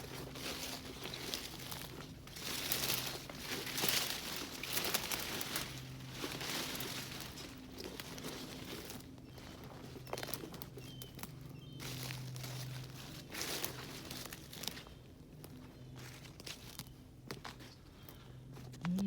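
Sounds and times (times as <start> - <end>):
footsteps crunching through undergrowth: 0.0 - 19.0.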